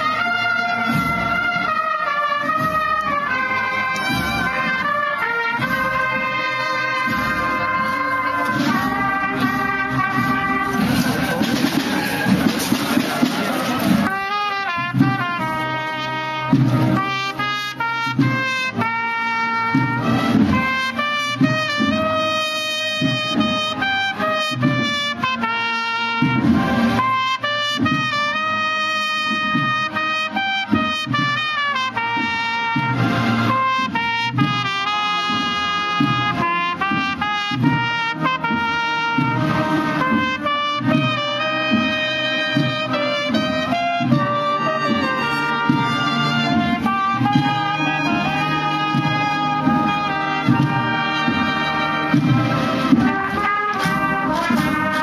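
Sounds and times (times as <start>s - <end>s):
brass marching band: 0.0s - 55.0s.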